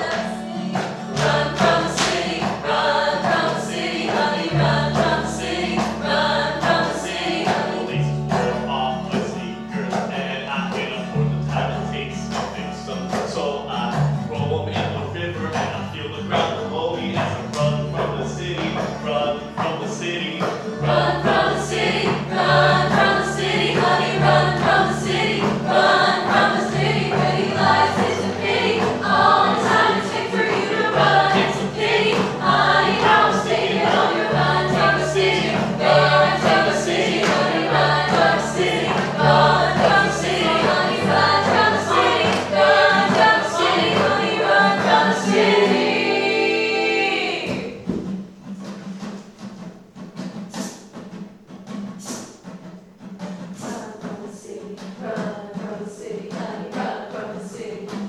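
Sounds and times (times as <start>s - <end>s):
vocal ensemble singing in harmony: 0.0s - 48.2s, 53.2s - 58.0s
low accompanying chords: 0.0s - 48.4s.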